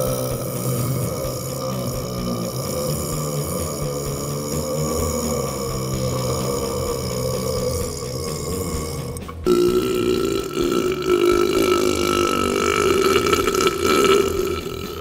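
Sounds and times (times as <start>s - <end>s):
person burping: 0.0s - 15.0s.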